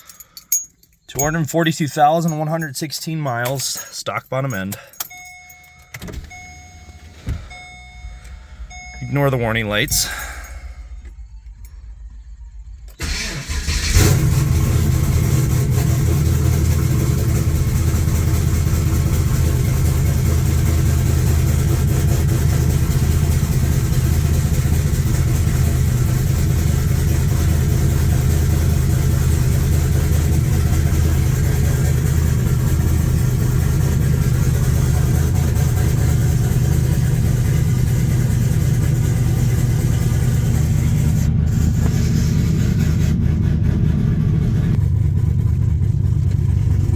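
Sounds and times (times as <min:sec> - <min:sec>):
car engine cranking and starting: 0:00.0 - 0:46.9
engine idling with deep rumble: 0:00.0 - 0:46.9.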